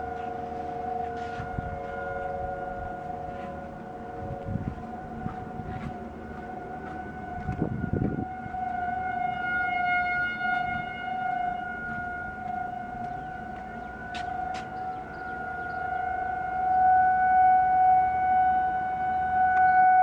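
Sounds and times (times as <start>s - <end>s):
distant warning sirens: 0.0s - 20.0s.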